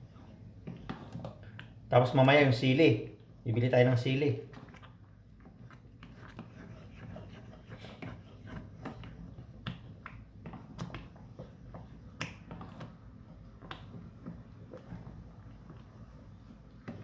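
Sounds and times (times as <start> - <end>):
plastic spoon stirring sauce in pot: 0.0 - 17.0.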